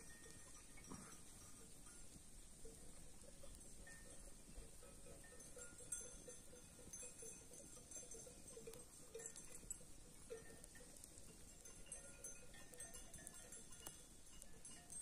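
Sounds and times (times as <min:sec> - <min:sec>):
faint clinking sheep bells: 0:00.0 - 0:15.0.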